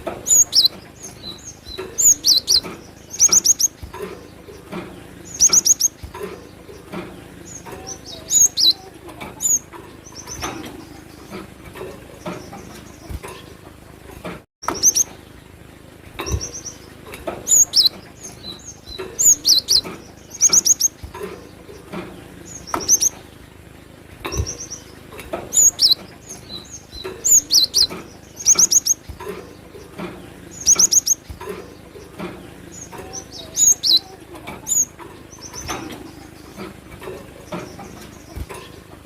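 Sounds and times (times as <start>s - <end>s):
bird chirping: 0.0s - 13.6s, 14.6s - 15.6s, 16.2s - 23.6s, 24.2s - 38.9s.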